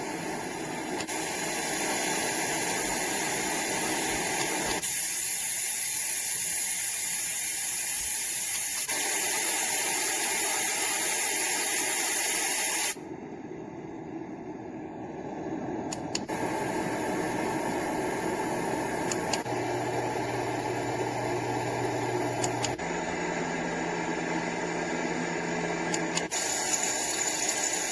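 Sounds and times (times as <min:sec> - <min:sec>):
white noise machine hiss: 0:00.0 - 0:27.9.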